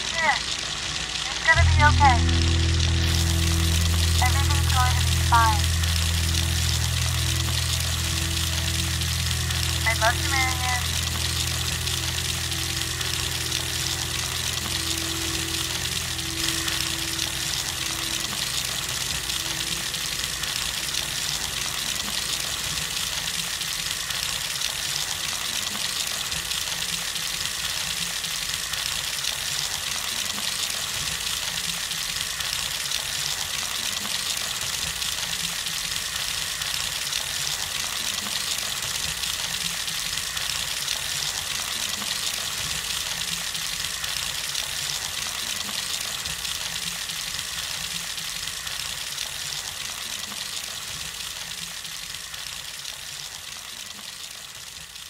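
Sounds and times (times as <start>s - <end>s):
water gushing: 0.0s - 55.0s.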